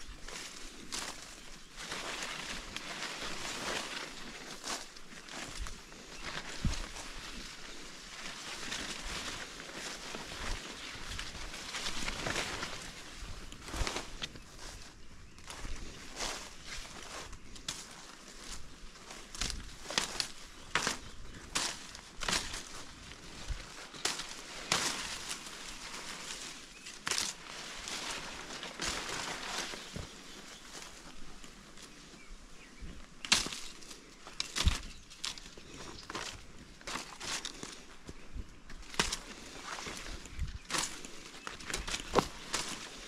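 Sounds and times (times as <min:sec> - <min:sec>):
footsteps crunching through dry leaves: 0:00.0 - 0:43.0
twigs cracking: 0:00.0 - 0:43.0.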